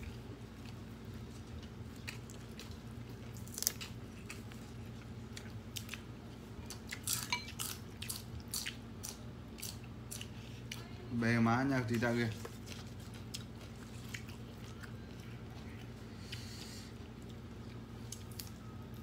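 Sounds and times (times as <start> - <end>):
chewing and eating: 0.0 - 11.1, 11.9 - 19.0
low steady hum: 0.0 - 19.0.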